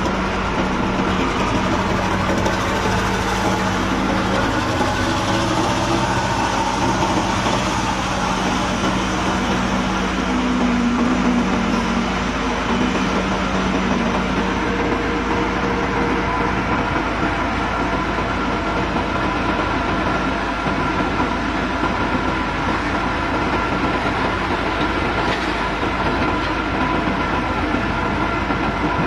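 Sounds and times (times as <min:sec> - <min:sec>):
heavy diesel engines running: 0:00.0 - 0:29.0.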